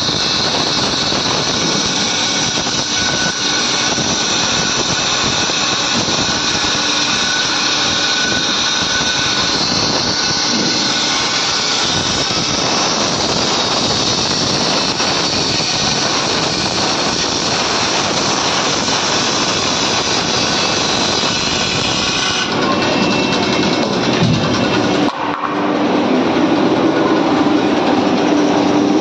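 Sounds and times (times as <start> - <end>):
band saw cutting wood: 0.0 - 29.0.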